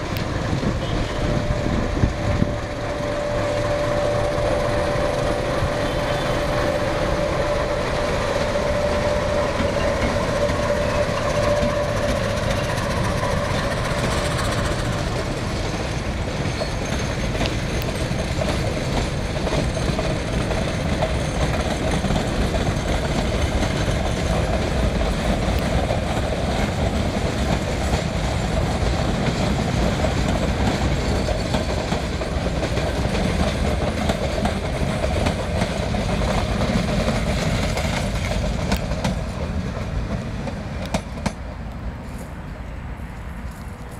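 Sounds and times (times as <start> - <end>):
train coaches rolling on track: 0.0 - 43.9.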